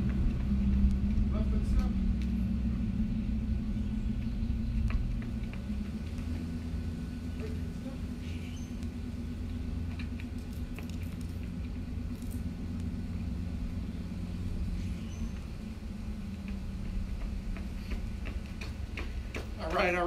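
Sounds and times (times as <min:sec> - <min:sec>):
faint hum: 0:00.0 - 0:19.8
low outdoor rumble: 0:00.0 - 0:20.0.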